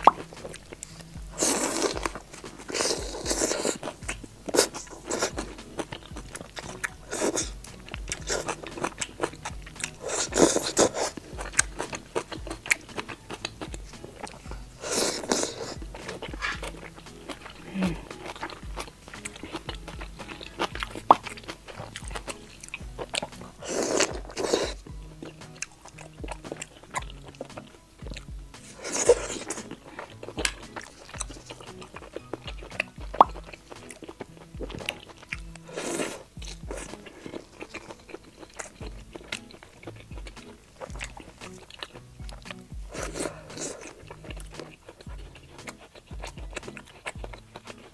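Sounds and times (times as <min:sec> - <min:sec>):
background music: 0:00.0 - 0:47.9
close chewing and biting: 0:00.0 - 0:47.9.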